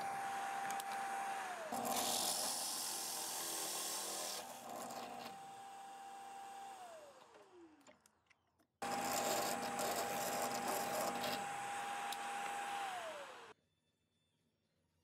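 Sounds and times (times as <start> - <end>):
drill bit boring through wood: 0.0 - 7.8, 8.8 - 13.6
drill press motor whine: 0.0 - 7.9, 8.8 - 13.6.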